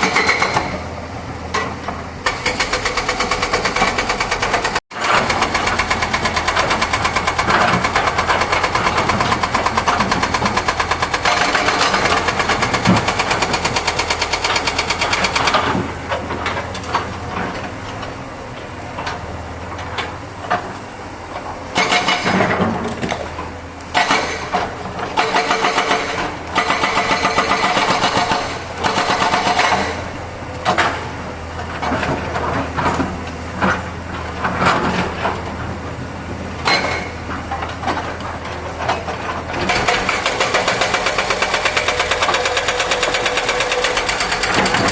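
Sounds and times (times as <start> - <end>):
excavator diesel engine revving: 0.0 - 44.9.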